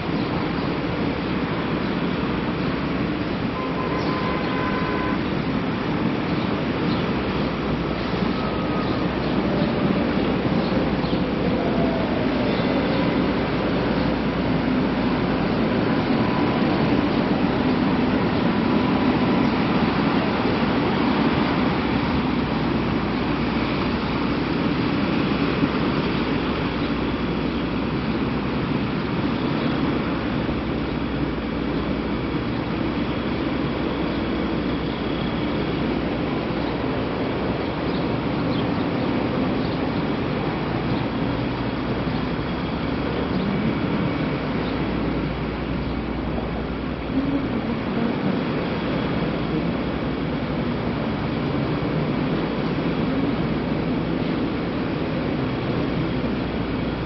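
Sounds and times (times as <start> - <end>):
road traffic hum: 0.0 - 57.0.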